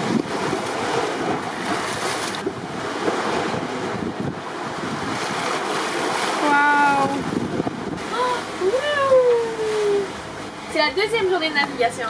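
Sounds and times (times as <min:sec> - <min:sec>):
wind noise on microphone: 0:00.0 - 0:09.9
water splashing past boat hull: 0:00.0 - 0:12.0.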